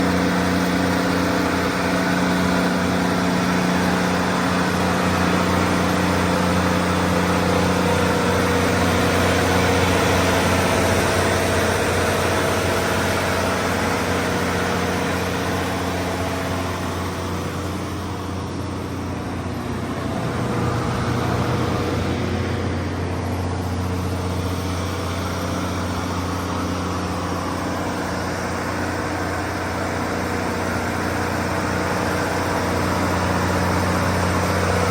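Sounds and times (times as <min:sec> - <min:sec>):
diesel generator engine running: 0:00.0 - 0:34.9.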